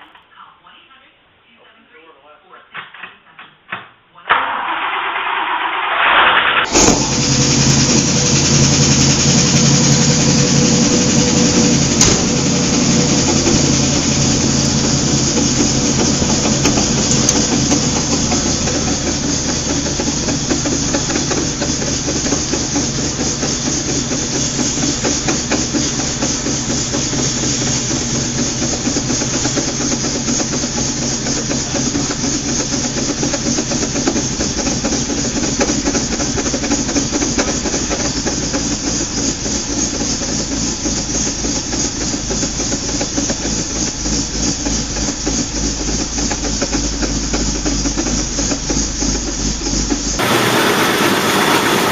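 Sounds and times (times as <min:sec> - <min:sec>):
car engine starting and idling: 0:04.4 - 0:51.9.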